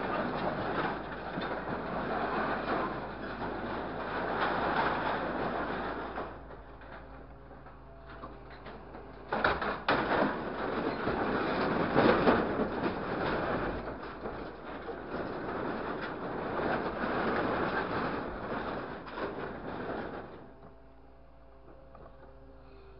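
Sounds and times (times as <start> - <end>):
scrap clattering into truck bed: 0.0 - 7.3, 8.1 - 20.5
hydraulic crane hum: 0.0 - 11.4, 13.5 - 22.9
scrap metal rattling and scraping: 0.0 - 20.8.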